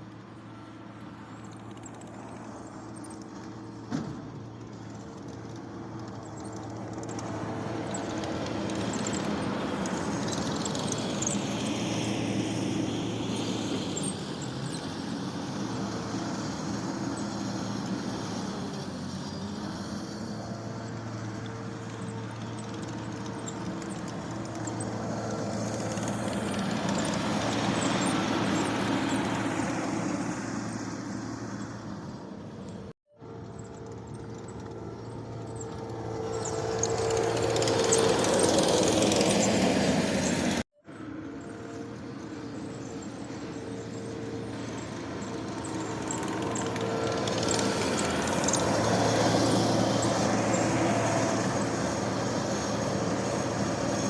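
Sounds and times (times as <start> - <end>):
diesel engine running under work: 0.0 - 54.0.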